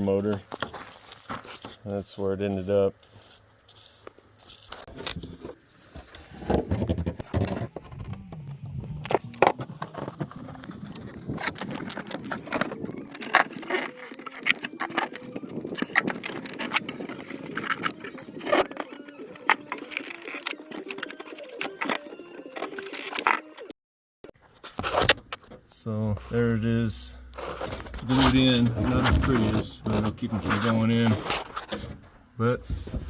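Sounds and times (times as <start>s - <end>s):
hands working with tools: 0.0s - 23.7s, 27.3s - 32.1s.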